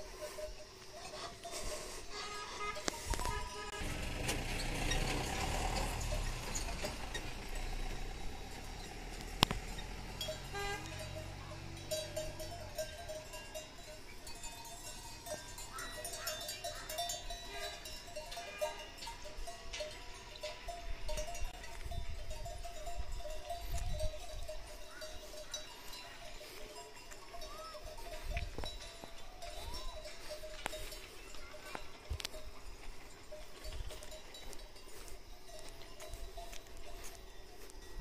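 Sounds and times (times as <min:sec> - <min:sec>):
livestock bells clinking: 0:00.0 - 0:38.0.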